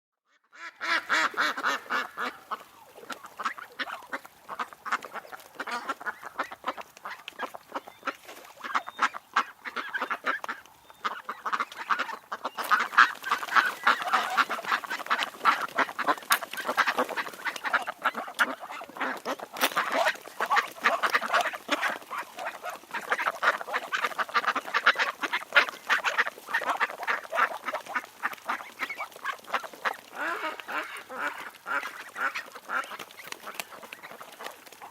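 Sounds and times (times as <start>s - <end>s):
ducks quacking: 0.3s - 34.9s.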